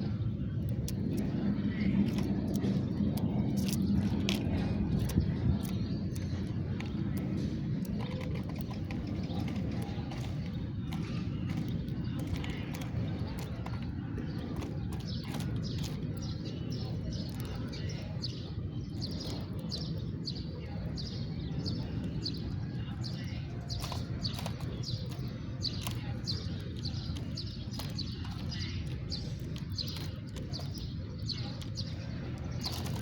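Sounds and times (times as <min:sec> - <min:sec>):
low background rumble: 0:00.0 - 0:33.0
sparrows chirping: 0:00.0 - 0:33.0.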